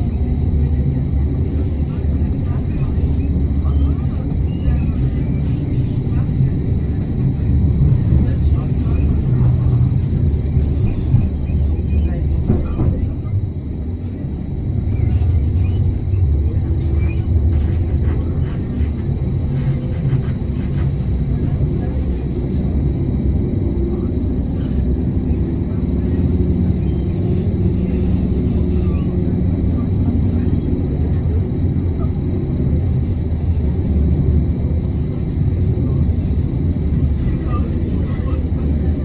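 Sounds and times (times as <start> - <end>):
tram low rumble: 0.0 - 39.0.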